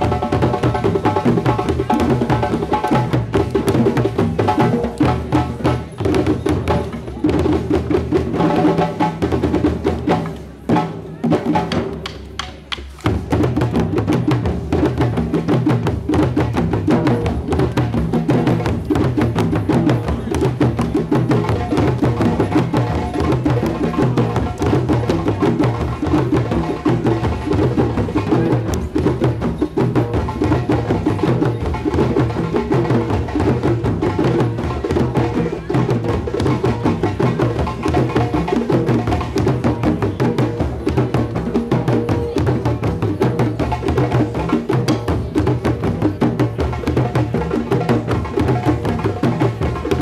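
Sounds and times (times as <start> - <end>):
hand drums playing: 0.0 - 50.0.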